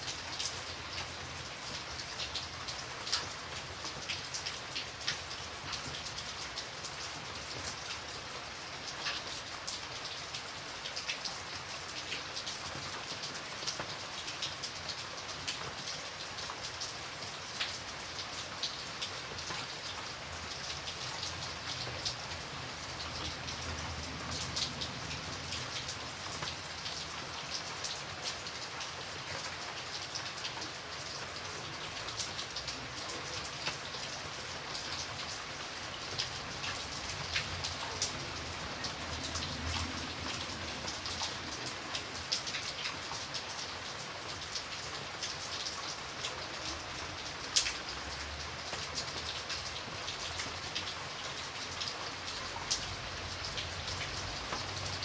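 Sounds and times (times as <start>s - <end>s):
rain drops tapping: 0.0s - 55.0s.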